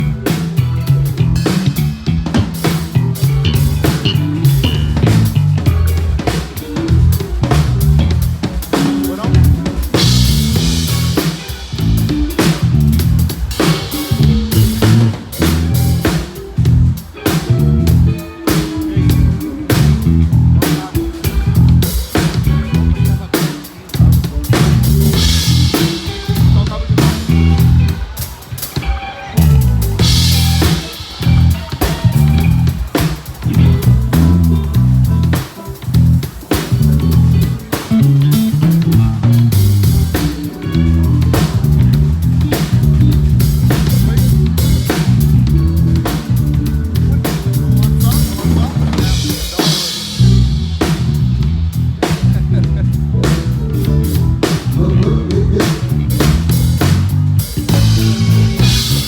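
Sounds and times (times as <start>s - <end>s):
band playing music: 0.0s - 59.0s
drum kit groove: 0.0s - 59.0s.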